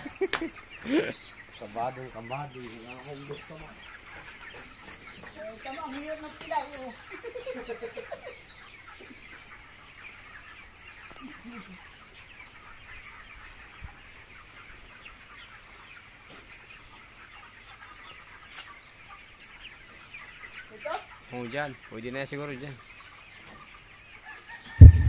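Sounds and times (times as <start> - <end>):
chickens clucking and chirping: 0.0 - 25.0.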